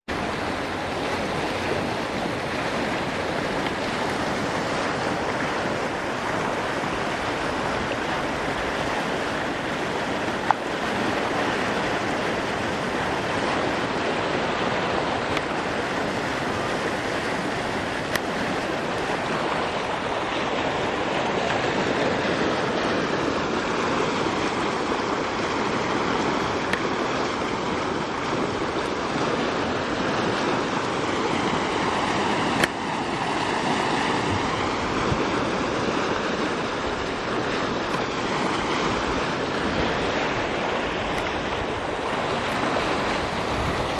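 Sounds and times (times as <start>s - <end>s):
floodwater rushing: 0.0s - 43.9s.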